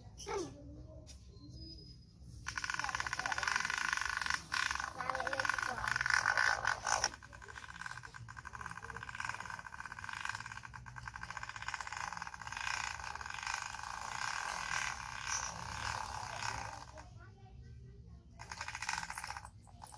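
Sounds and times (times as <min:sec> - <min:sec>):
toy truck rattling: 0:02.4 - 0:17.1, 0:18.4 - 0:19.9.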